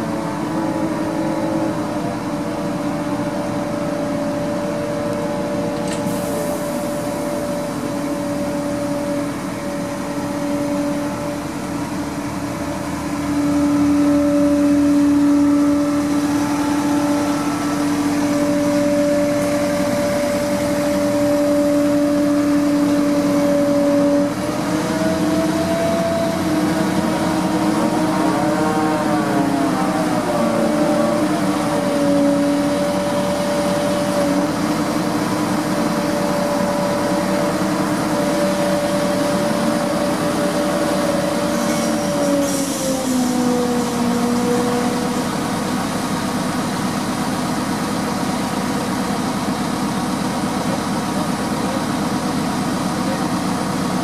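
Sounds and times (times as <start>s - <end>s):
crane engine hum with whine: 0.0s - 54.0s.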